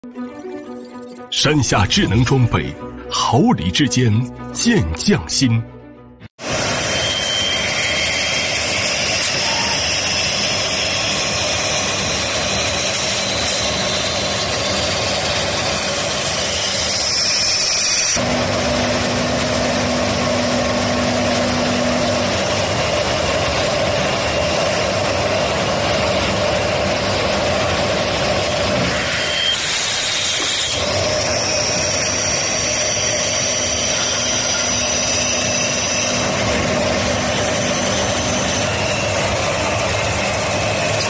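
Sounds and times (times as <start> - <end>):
conveyor belts and drilling heads: 6.4 - 41.0
machine line running: 6.4 - 41.0.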